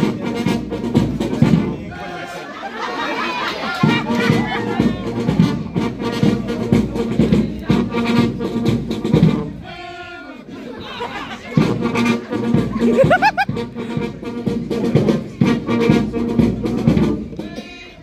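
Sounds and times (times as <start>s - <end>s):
marching brass band playing: 0.0s - 2.3s, 3.4s - 17.8s.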